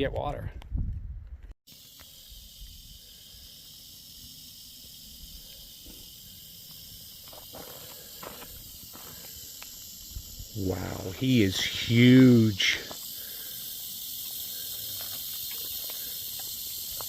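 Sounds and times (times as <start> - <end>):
rattlesnake rattling: 1.7 - 17.0.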